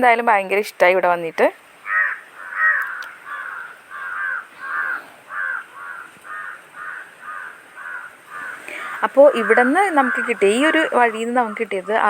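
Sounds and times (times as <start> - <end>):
crow cawing: 1.8 - 12.0.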